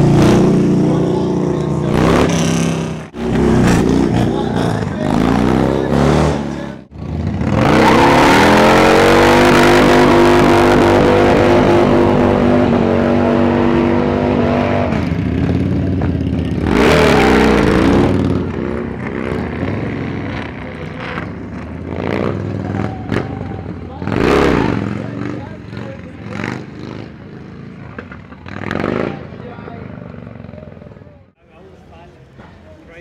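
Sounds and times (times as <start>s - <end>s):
motorcycle engine revving: 0.0s - 31.3s.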